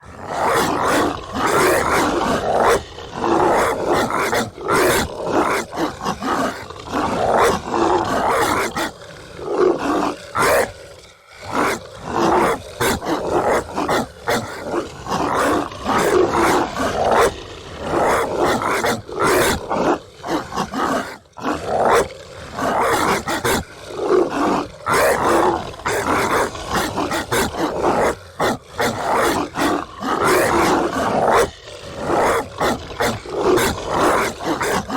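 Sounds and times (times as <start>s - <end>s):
dogs barking: 0.0s - 10.8s, 11.4s - 34.9s.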